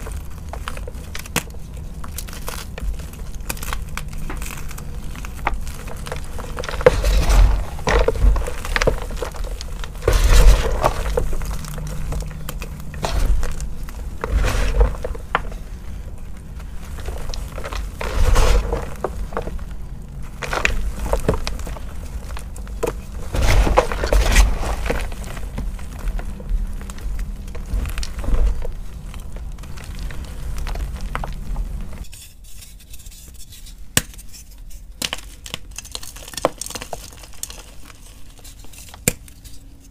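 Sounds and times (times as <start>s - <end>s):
chalk pieces snapping: 0.0s - 39.6s
hands crushing chalk: 0.0s - 39.9s.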